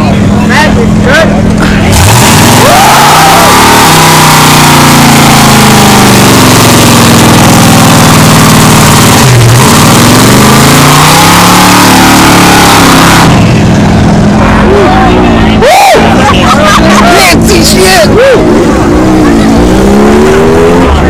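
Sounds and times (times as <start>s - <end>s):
vehicle engine revving hard: 1.8s - 13.6s, 14.4s - 21.0s.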